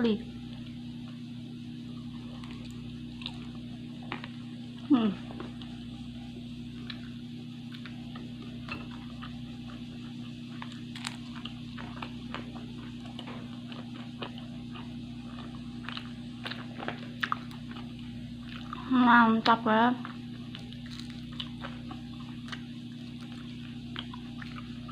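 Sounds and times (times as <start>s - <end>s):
steady low hum: 0.0s - 24.9s
person chewing food: 2.0s - 6.0s, 6.7s - 18.9s, 20.0s - 24.9s.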